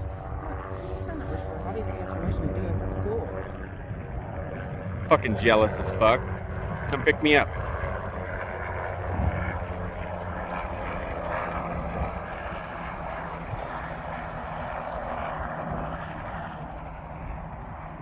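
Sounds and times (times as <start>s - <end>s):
helicopter passing low: 0.0s - 18.0s.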